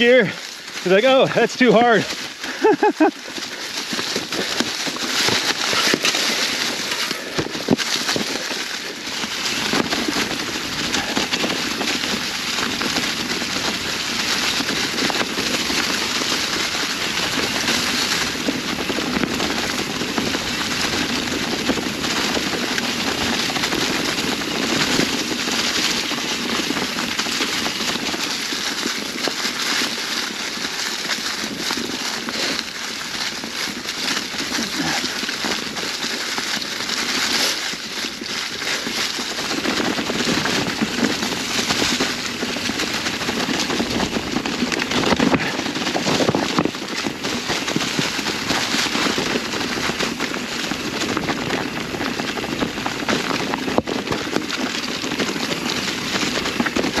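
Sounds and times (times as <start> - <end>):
tyres crunching dry leaves: 0.0 - 57.0.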